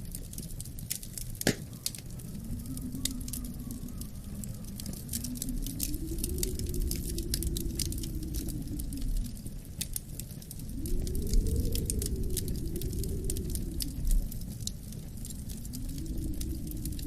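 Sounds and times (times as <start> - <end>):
low wind: 0.0 - 17.0
wood fire crackling and popping: 0.0 - 17.0.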